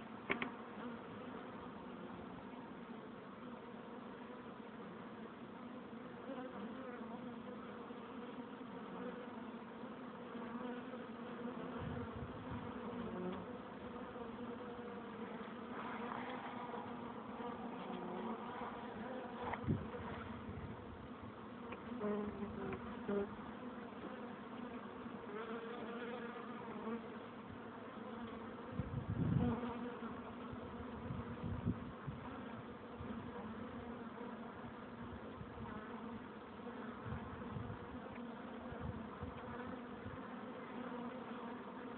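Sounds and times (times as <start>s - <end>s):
bees buzzing: 0.0s - 41.9s.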